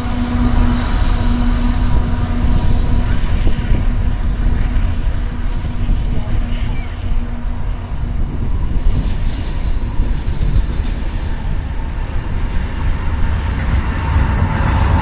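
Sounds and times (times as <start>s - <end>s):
diesel locomotive rumble: 0.0s - 15.0s
rail and wheel hiss: 0.0s - 15.0s.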